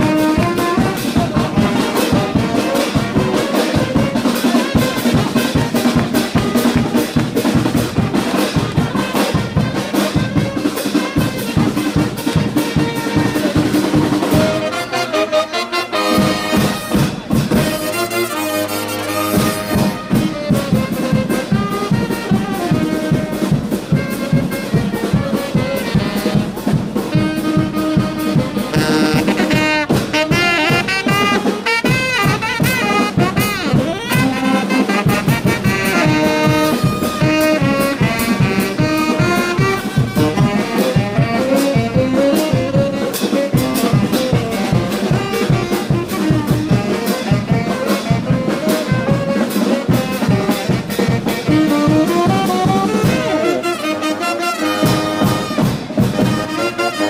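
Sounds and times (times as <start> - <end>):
steady drum beat: 0.0 - 14.9, 16.0 - 57.0
brass band music: 0.0 - 57.0
trumpets and trombones: 0.0 - 57.0.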